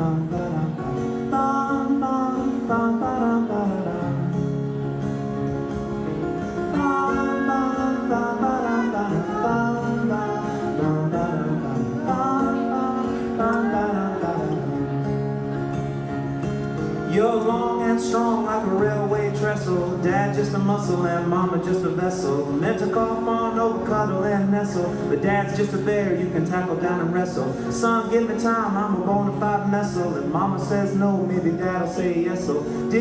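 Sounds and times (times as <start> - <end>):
acoustic guitar: 0.0 - 33.0
walking bass: 0.0 - 33.0.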